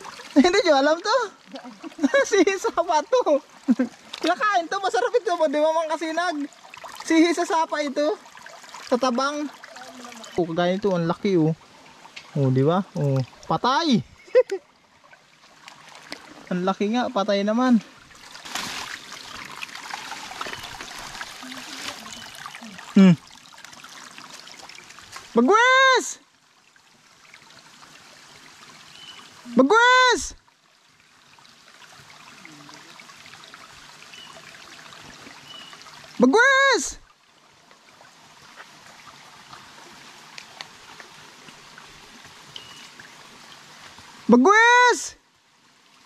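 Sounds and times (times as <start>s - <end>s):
forest background hiss: 0.0s - 46.0s
stream trickling over rocks: 0.0s - 46.0s.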